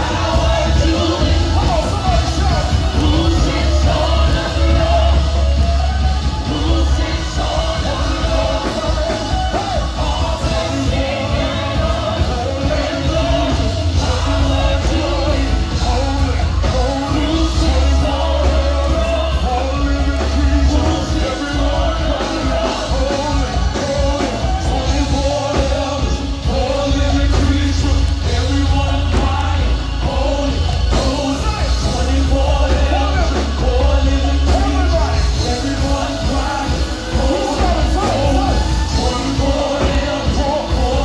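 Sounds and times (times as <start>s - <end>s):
amplified backing music heavy bass: 0.0s - 41.0s
vocal group singing: 0.0s - 41.0s.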